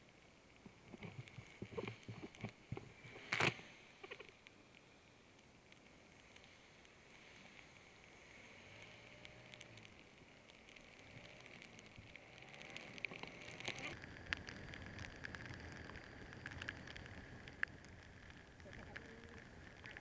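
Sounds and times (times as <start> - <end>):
rain pattering on camera: 0.0 - 20.0.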